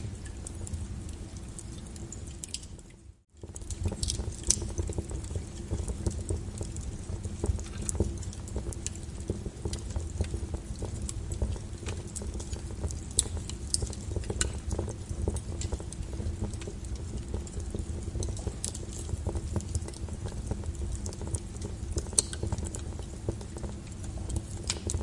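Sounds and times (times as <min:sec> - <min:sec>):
fire crackling: 0:00.0 - 0:25.0.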